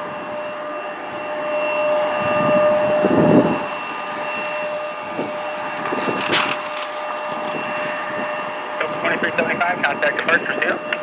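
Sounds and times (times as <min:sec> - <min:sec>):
jet engines whining and roaring: 0:00.0 - 0:11.0.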